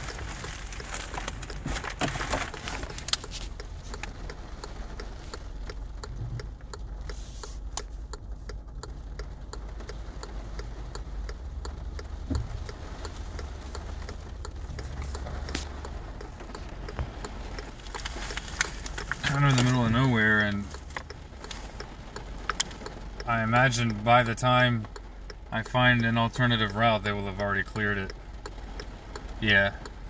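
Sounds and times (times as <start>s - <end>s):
car engine hum: 0.0s - 30.0s
raindrops tapping on car roof: 0.0s - 30.0s.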